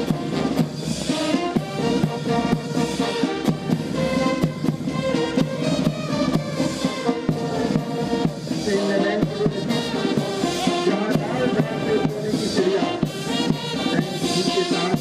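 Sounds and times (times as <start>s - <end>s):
steady drum beat: 0.0s - 15.0s
trumpets: 0.0s - 15.0s
tubas: 0.0s - 15.0s.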